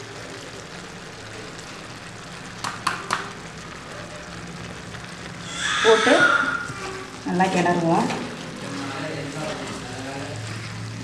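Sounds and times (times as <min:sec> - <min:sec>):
mushrooms sizzling in oil: 0:00.0 - 0:11.0.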